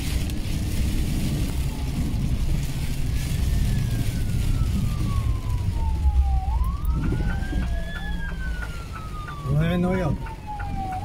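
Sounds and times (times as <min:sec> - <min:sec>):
car driving on wet road: 0:00.0 - 0:11.0
emergency siren wailing: 0:00.2 - 0:11.0.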